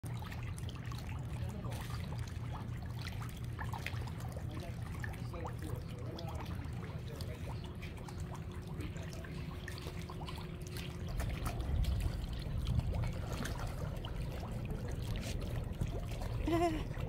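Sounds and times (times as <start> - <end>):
fish splashing at water surface: 0.0 - 17.0
water trickling: 0.0 - 17.0
steady low rumble: 0.1 - 17.0.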